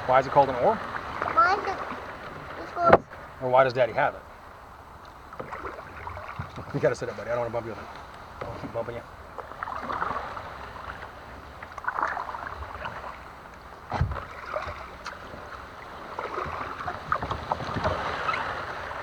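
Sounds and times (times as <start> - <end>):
paddle splashing water: 0.0 - 19.0.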